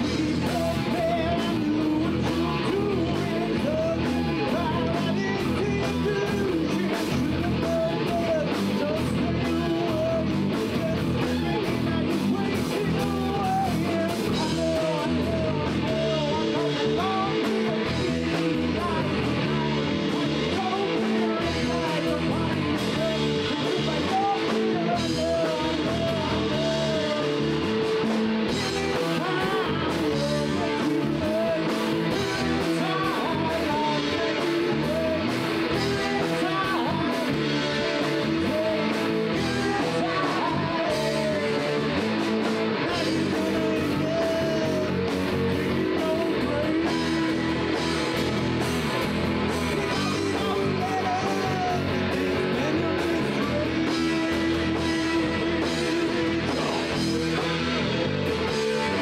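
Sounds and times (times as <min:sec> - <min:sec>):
drums: 0:00.0 - 0:59.0
electric guitars: 0:00.0 - 0:59.0
man singing: 0:00.0 - 0:59.0.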